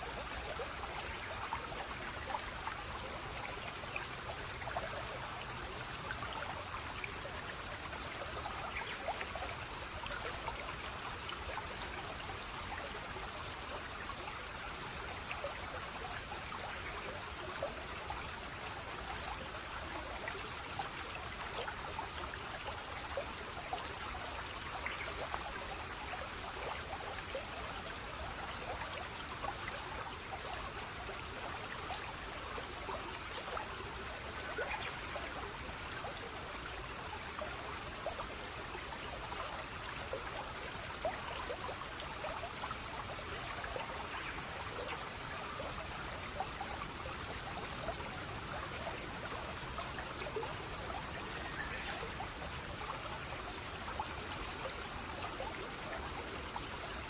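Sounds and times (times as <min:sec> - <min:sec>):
water flowing and trickling: 0:00.0 - 0:57.0.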